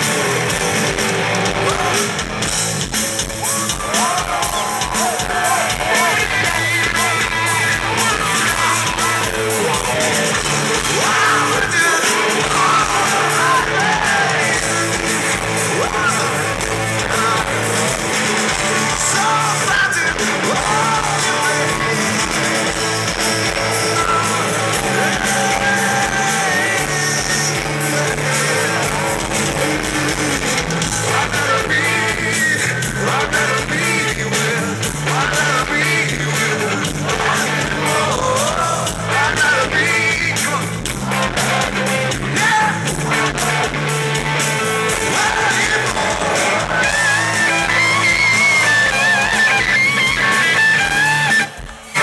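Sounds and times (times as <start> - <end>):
bass guitar: 0.0 - 52.0
drums with cymbal hits: 0.0 - 52.0
electric guitar: 0.0 - 52.0
man singing lead vocal: 0.0 - 52.0
rock band playing live: 0.0 - 52.0.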